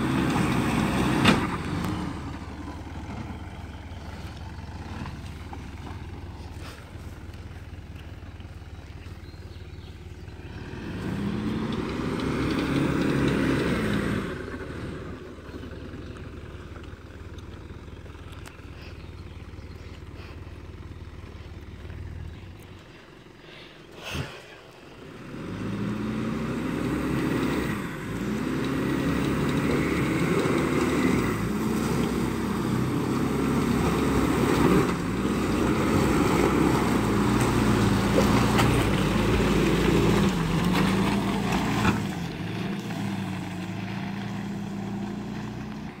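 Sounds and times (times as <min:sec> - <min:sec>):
car engine revving off-road: 0:00.0 - 0:46.0.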